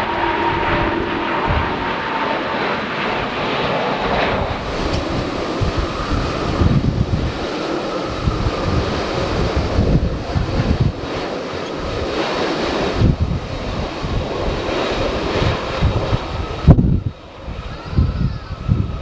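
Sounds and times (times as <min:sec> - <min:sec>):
airliner engine rush and whine: 0:00.0 - 0:19.0
wind buffeting microphone: 0:00.0 - 0:19.0.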